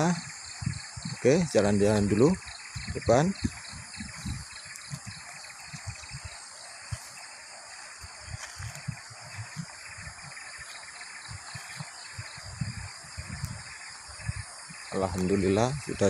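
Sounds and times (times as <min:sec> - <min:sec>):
even hiss: 0:00.0 - 0:16.0
pulsing insect chorus: 0:00.0 - 0:16.0
footsteps on dirt and gravel: 0:01.8 - 0:15.8.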